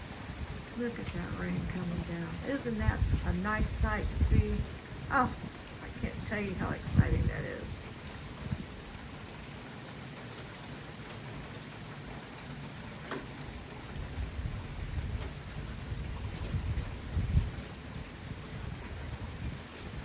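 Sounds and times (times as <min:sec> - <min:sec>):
low uneven rumbling: 0:00.0 - 0:20.0
steady rain falling: 0:00.0 - 0:20.0.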